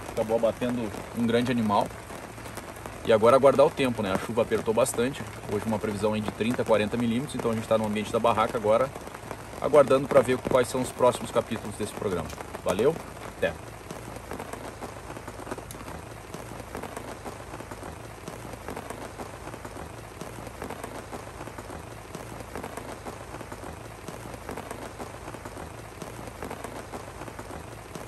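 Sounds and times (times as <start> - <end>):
heavy rain on a tent: 0.0 - 28.0.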